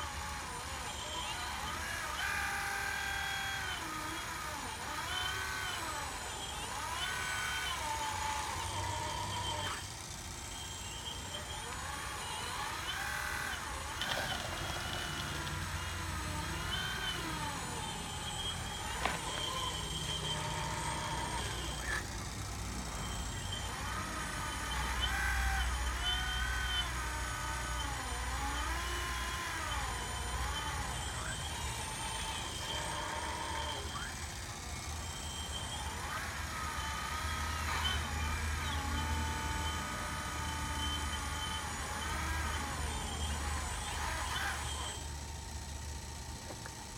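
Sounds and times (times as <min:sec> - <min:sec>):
hydraulic pump whine: 0:00.0 - 0:46.9.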